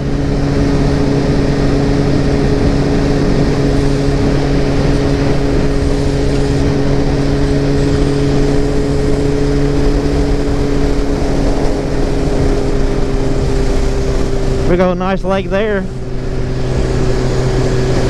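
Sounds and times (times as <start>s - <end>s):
motorcycle engine cruising: 0.0s - 18.0s
wind and road noise: 0.0s - 18.0s.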